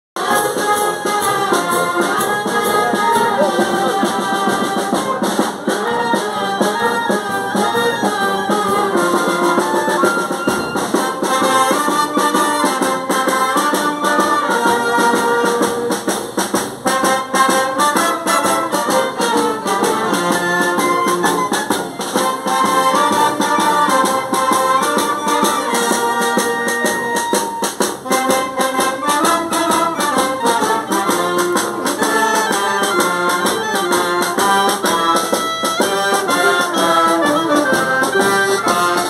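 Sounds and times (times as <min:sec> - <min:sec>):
clarinet melody: 0:00.2 - 0:16.0, 0:16.8 - 0:39.0
brass instruments: 0:00.2 - 0:39.0
steady drum beats: 0:00.2 - 0:39.0.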